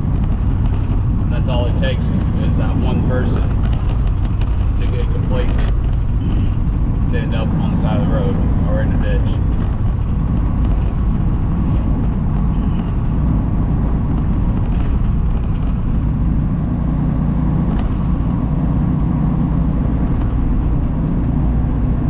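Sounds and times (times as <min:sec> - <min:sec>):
truck engine and tyre rumble: 0:00.0 - 0:22.0.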